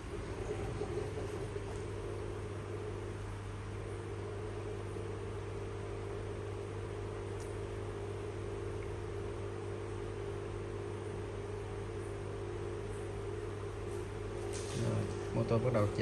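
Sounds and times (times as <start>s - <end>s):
washing machine drain pump humming: 0.0s - 16.0s.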